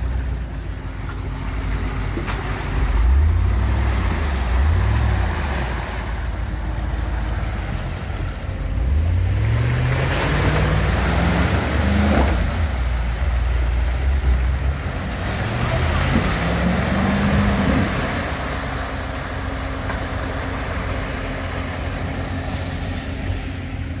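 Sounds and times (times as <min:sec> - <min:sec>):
mud splashing under tyres: 0:00.0 - 0:24.0
truck engine revving: 0:00.0 - 0:24.0.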